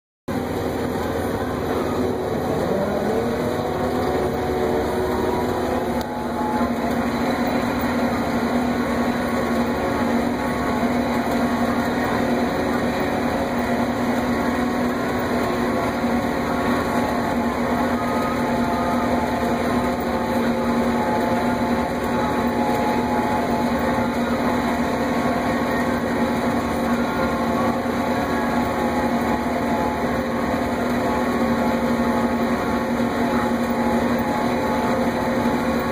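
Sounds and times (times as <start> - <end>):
swather machine drone: 0.3 - 35.9.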